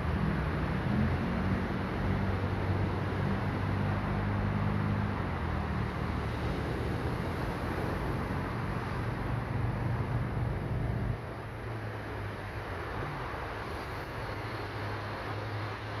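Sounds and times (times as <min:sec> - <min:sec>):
low engine hum: 0:00.0 - 0:16.0
steady rushing noise: 0:00.0 - 0:16.0.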